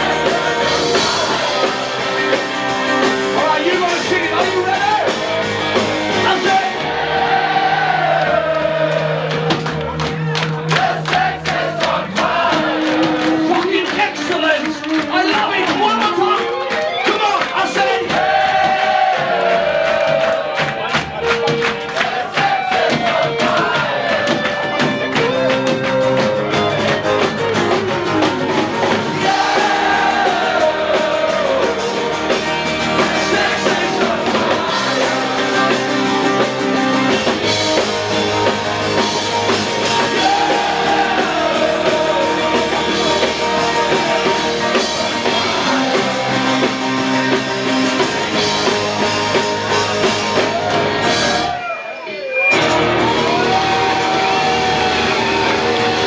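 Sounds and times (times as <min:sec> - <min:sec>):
crowd shouting and singing along: 0:00.0 - 0:56.0.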